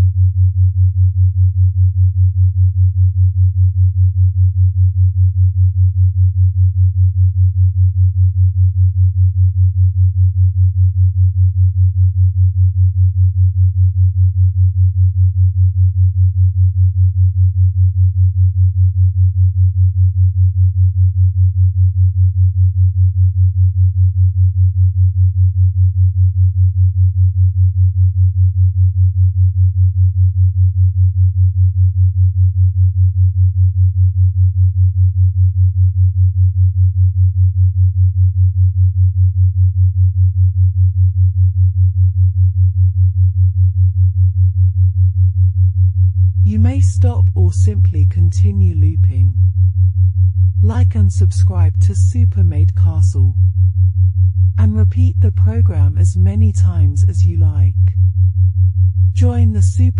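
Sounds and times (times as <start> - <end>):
pulsing low sine tone: 0.0 - 59.9.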